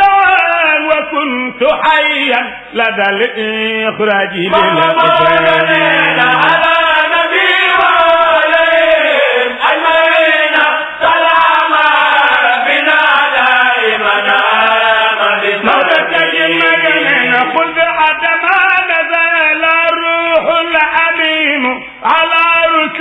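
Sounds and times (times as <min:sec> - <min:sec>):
person chanting devotional poem: 0:00.0 - 0:10.8, 0:11.5 - 0:23.0.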